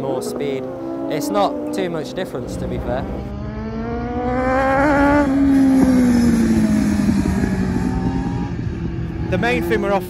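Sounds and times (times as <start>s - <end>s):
motorcycle engine passing: 0.0s - 10.0s.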